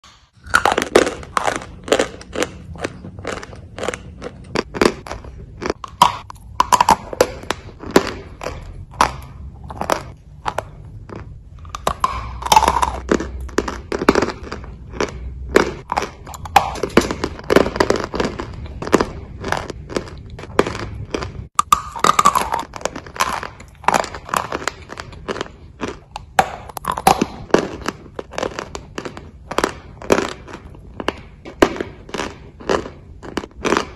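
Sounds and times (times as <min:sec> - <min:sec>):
chewing crunchy chalk: 0:00.3 - 0:33.9.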